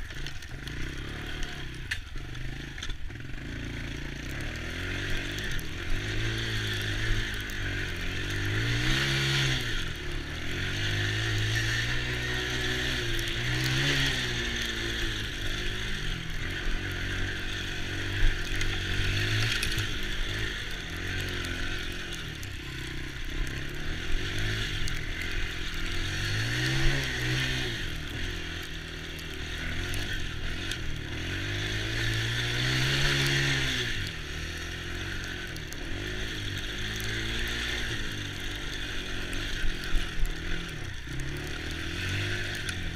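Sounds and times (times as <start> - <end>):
small atv engine revving: 0.0 - 42.9.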